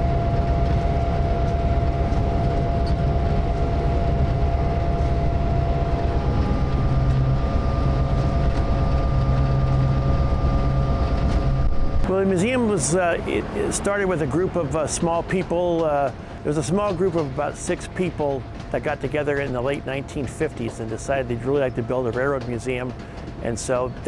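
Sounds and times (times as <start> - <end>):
locomotive engine rumble: 0.0 - 24.0
steady whine: 0.0 - 24.0.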